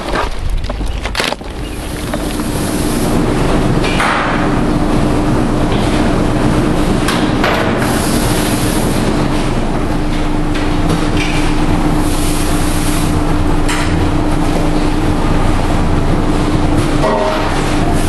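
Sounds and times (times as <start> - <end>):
machinery running with low hum: 0.0 - 18.0.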